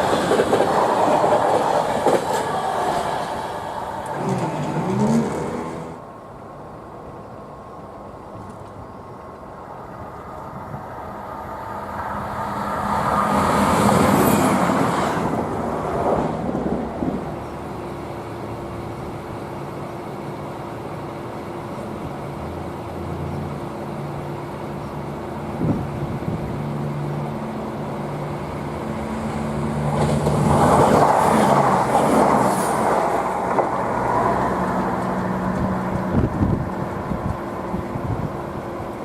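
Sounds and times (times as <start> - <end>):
diesel train passing: 0.0 - 39.0.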